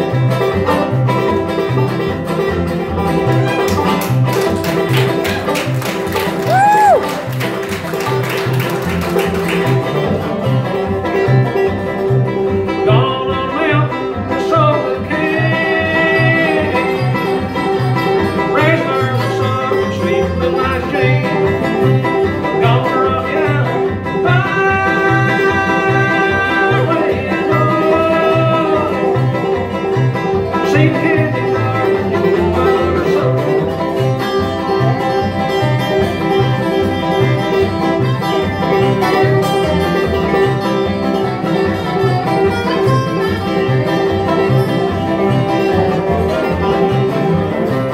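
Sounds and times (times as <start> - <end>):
banjo picking: 0.0 - 47.9
fiddle melody: 0.0 - 47.9
guitar: 0.0 - 47.9
upright bass beat: 0.0 - 47.9.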